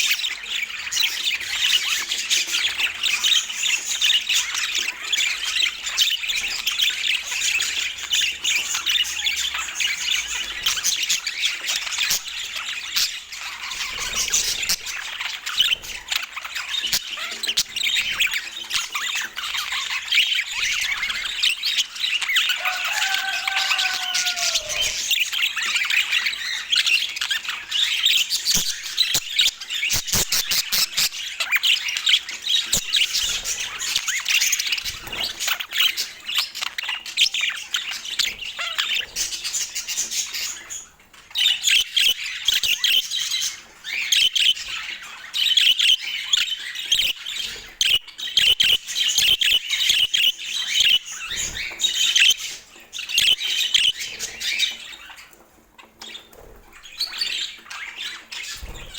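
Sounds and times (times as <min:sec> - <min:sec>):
budgerigars chattering: 0:00.0 - 0:58.9.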